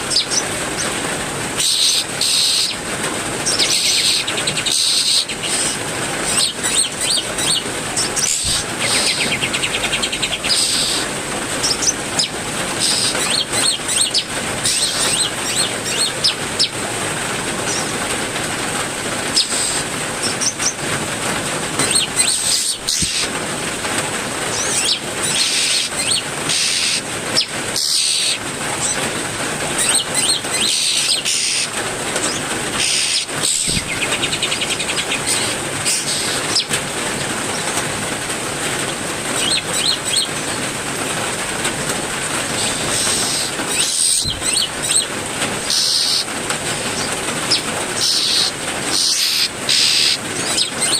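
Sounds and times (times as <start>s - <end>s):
songbirds chirping: 0.0s - 23.4s, 24.4s - 50.9s
steady rain falling: 0.0s - 50.9s.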